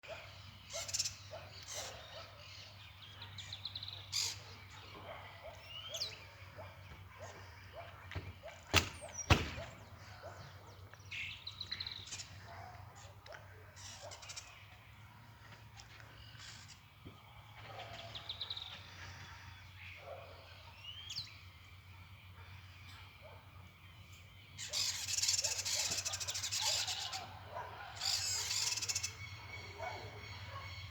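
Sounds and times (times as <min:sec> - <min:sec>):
birds gurgling and whistling: 0:00.0 - 0:13.1, 0:16.0 - 0:30.9.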